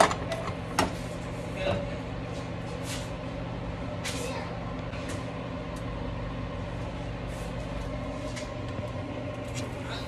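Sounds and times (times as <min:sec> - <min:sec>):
appliance humming with hiss: 0:00.0 - 0:10.0.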